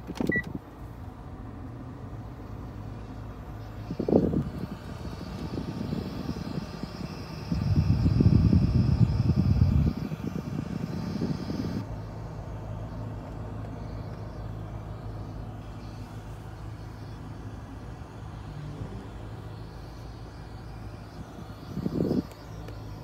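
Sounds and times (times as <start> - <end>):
car air conditioning hum: 0.0 - 23.0.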